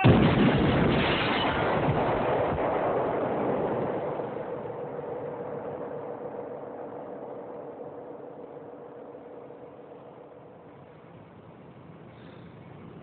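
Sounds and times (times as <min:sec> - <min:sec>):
explosion roar rumbling: 0:00.0 - 0:10.6.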